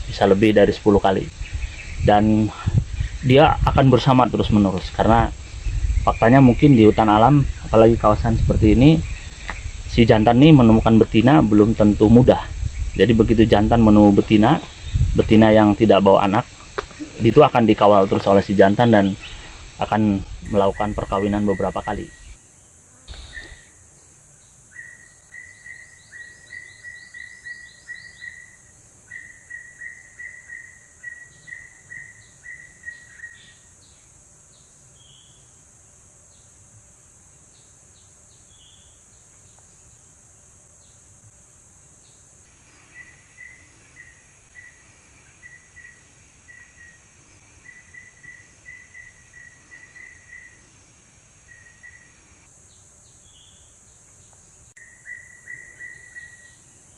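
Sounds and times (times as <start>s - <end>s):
high-pitched insect drone: 0.0s - 56.9s.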